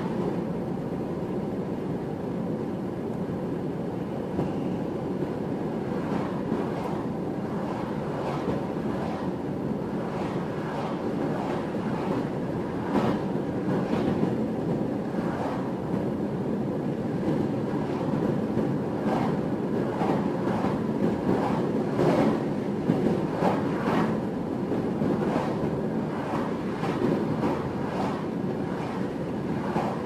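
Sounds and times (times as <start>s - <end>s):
wind noise: 0.0s - 30.0s.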